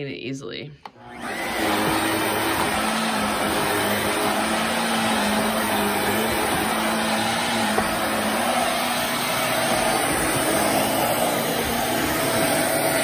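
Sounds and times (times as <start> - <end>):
handheld vacuum running: 0.9 - 13.0.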